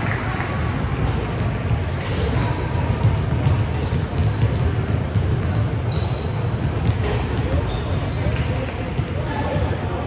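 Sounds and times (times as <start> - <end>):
ball bouncing on hardwood court: 0.0 - 9.7
sneakers squeaking: 0.0 - 9.9
gym crowd din: 0.0 - 10.0.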